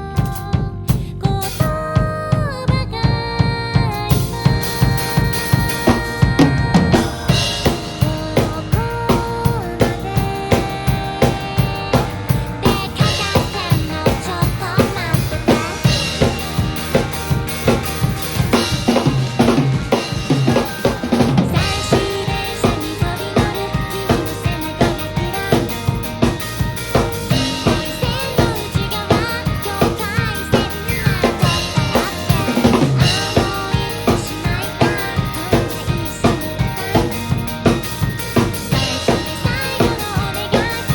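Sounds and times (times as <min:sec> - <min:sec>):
drum kit beat: 0:00.0 - 0:40.9
recorded pop-rock song: 0:00.0 - 0:40.9
cymbals: 0:04.1 - 0:40.9.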